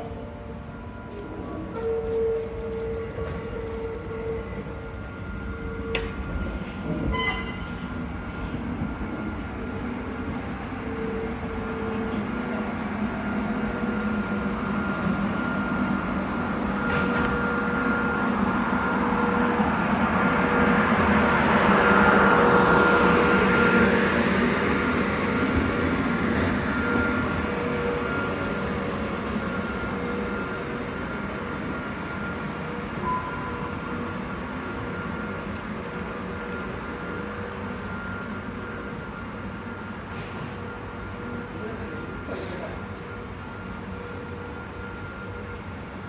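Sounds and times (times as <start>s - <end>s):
electric train on track: 0.0s - 46.0s.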